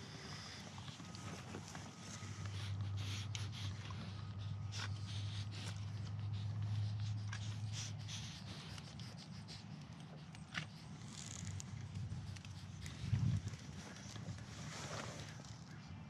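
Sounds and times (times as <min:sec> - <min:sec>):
steady low hum: 0:00.0 - 0:16.0
goats rubbing at camera: 0:00.7 - 0:15.4.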